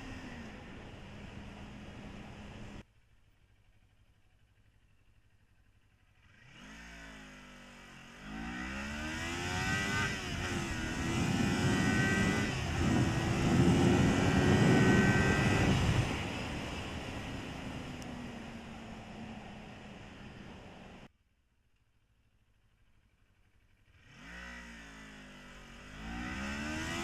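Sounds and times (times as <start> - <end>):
motorcycle engine accelerating: 0.0 - 2.8, 3.8 - 21.1, 22.8 - 27.0.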